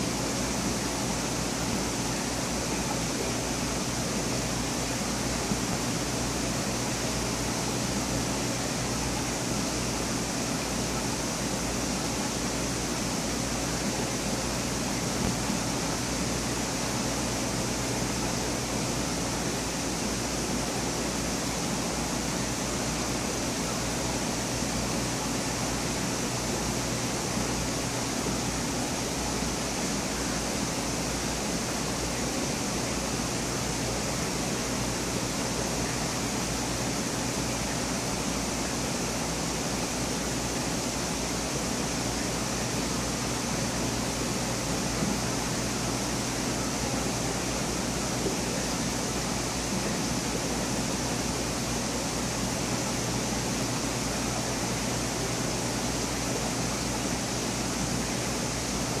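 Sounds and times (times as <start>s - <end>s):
circulating water rushing: 0.0s - 59.0s
low pump hum: 0.0s - 59.0s.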